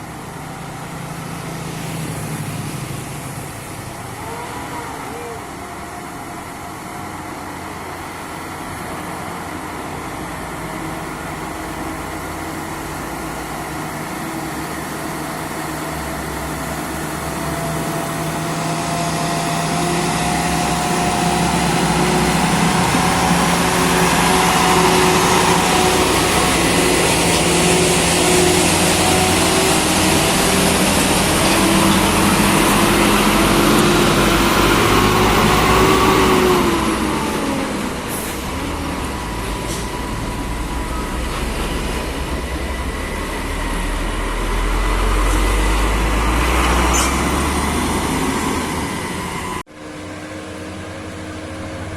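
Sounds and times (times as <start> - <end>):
diesel truck engine labouring: 0.0 - 51.9.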